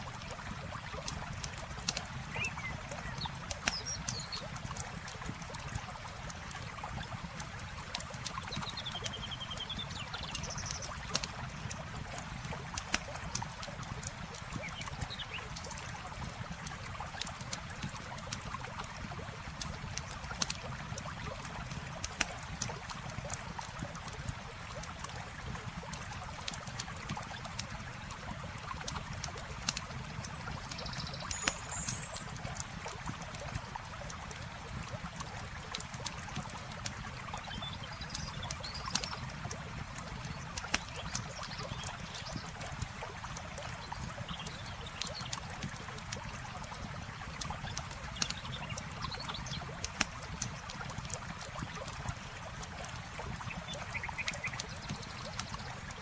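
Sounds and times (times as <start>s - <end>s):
river flowing: 0.0s - 56.0s
campfire crackling and popping: 0.3s - 9.2s, 9.8s - 56.0s.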